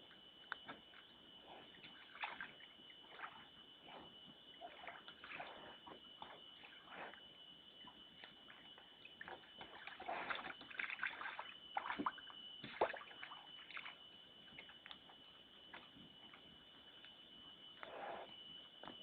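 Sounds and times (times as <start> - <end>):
faint high-pitched tone: 0.0 - 19.0.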